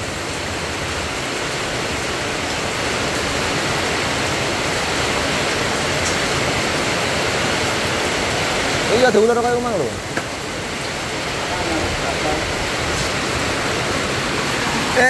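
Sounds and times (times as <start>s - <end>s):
heavy rain on tarpaulin: 0.0s - 15.0s.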